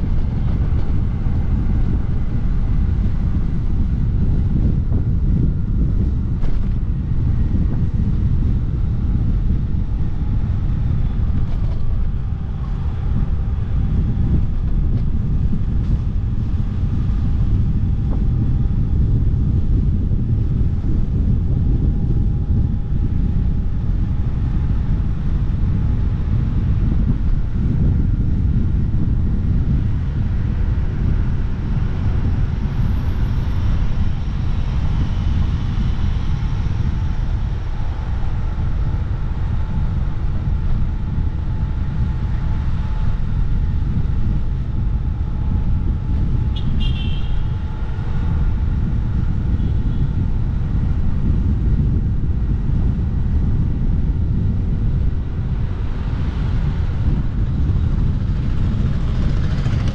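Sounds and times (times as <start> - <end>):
faint engine drone: 0.0 - 59.9
road rumble: 0.0 - 59.9
wind on microphone: 0.0 - 59.9.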